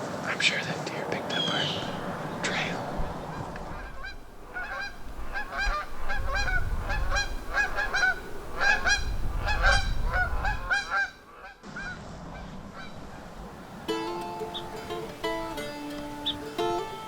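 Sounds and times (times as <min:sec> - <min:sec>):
geese honking: 0:01.3 - 0:17.0.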